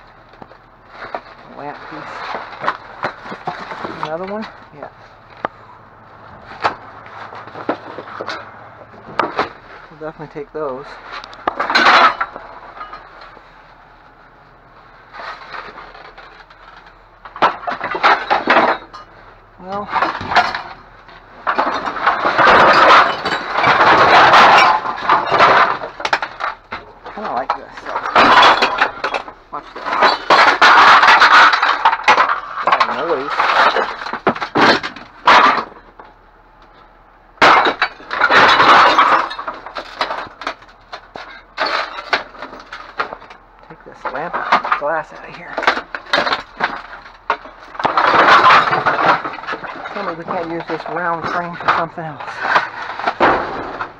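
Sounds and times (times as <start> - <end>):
glass clattering and crunching: 0.0 - 5.7, 6.3 - 53.9
items rustling and scraping: 0.0 - 53.9.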